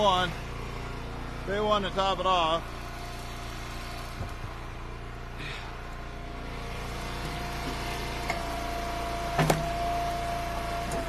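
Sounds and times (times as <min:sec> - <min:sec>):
log splitter engine running: 0:00.0 - 0:11.0.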